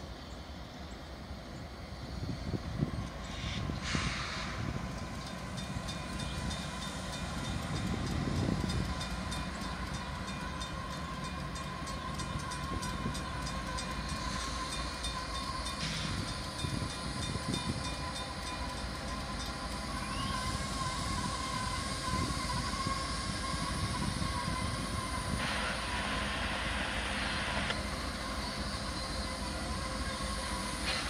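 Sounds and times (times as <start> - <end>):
train engine and wheel rumble: 0.0 - 31.0.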